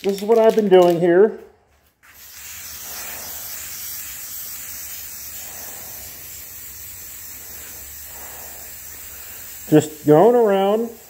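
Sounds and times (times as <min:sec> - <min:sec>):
spray can hissing: 0:02.0 - 0:11.0.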